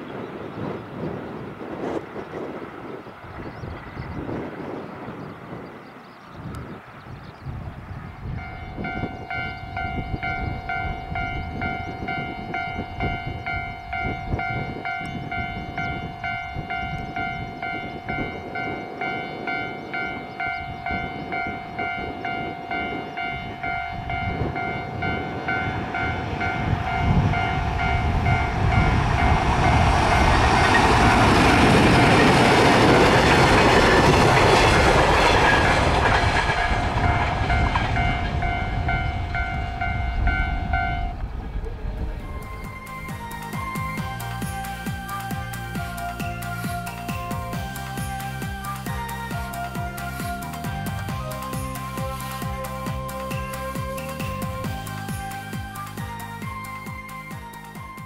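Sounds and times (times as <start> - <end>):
freight train passing: 0.0 - 58.0
level crossing warning bell: 8.4 - 58.0.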